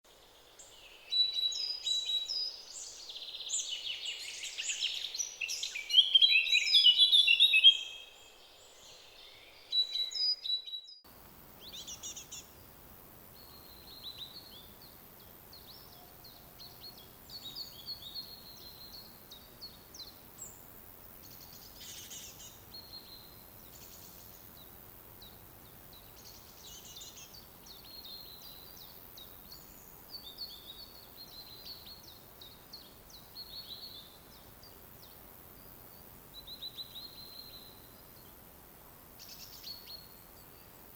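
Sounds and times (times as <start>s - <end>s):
soft background hiss: 0.1s - 40.9s
songbirds chirping and trilling: 0.2s - 40.9s.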